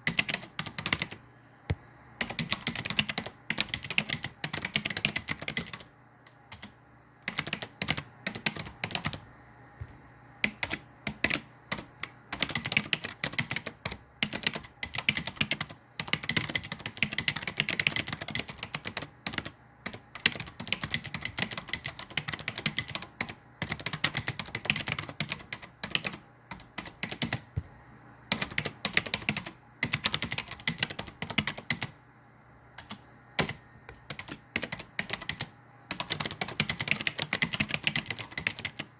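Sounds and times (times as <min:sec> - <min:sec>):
computer keyboard typing: 0:00.0 - 0:01.2, 0:02.2 - 0:09.2, 0:09.8 - 0:27.7, 0:28.3 - 0:32.0, 0:32.8 - 0:38.9.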